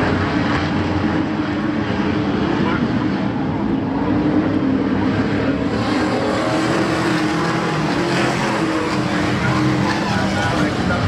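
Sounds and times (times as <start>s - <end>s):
race truck engines running: 0.0s - 11.0s.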